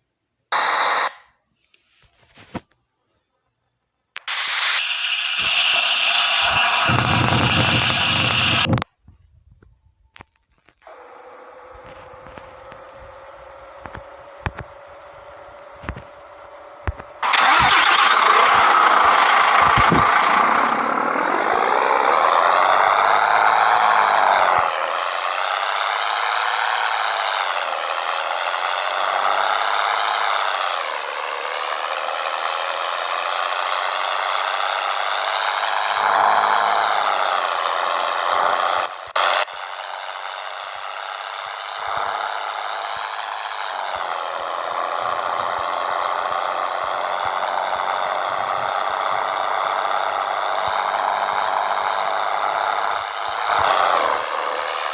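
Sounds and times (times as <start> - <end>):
truck diesel engine revving: 4.2 - 8.8, 10.9 - 54.9.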